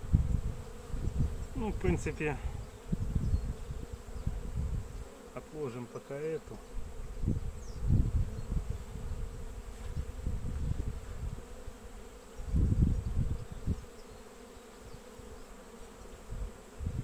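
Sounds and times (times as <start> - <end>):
bees humming: 0.0 - 17.0.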